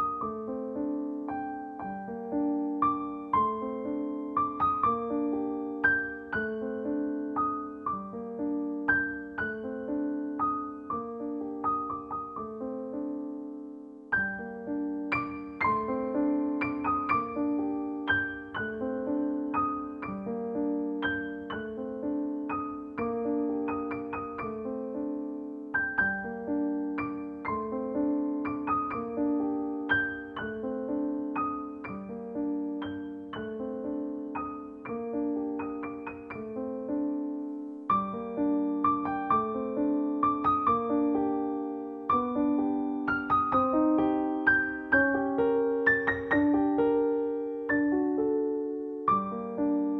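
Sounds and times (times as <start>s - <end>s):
gentle piano melody: 0.0s - 49.9s.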